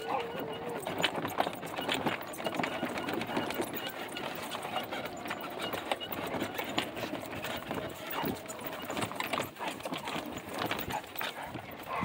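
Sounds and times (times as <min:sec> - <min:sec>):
dogs sniffing: 0:00.0 - 0:12.0.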